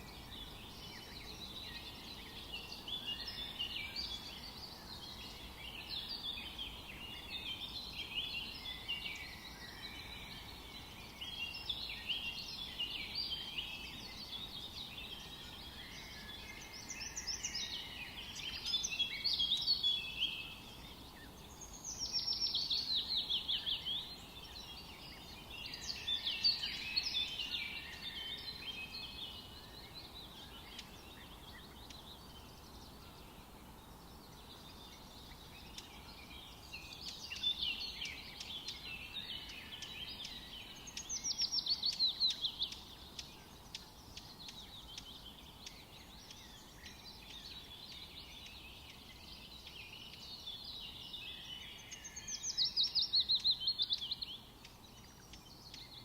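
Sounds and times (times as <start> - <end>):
background hiss: 0.0 - 56.0
songbirds singing: 0.0 - 56.0.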